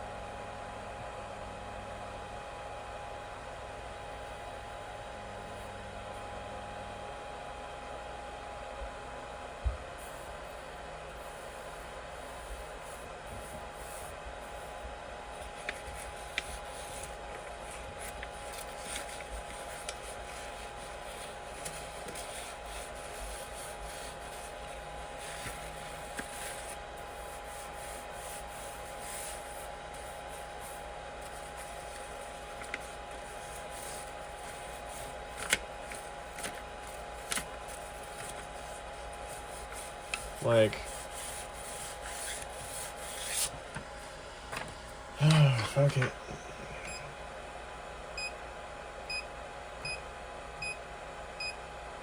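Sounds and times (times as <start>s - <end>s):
printer whine: 0.0s - 51.8s.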